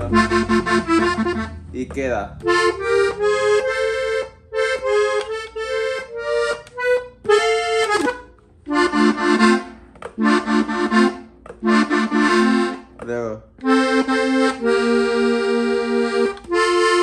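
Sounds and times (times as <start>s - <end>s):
button accordion playing: 0.0s - 17.0s.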